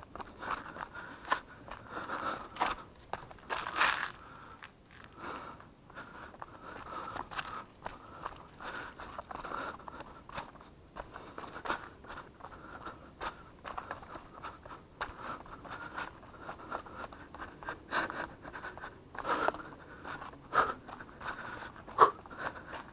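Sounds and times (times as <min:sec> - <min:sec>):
hard breathing: 0:00.0 - 0:22.9
running footsteps on trail: 0:00.0 - 0:22.9.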